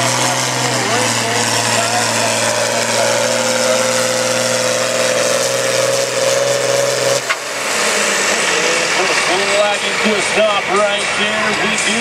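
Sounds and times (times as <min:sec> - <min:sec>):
diesel tractor engine under load: 0:00.0 - 0:12.0.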